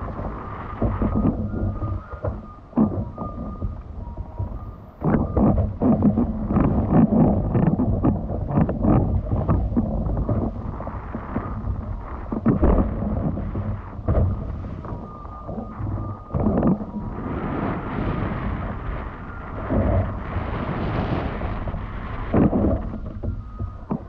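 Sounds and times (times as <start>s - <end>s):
water rushing and slapping: 0.0s - 24.0s
wind buffeting microphone: 0.0s - 24.0s.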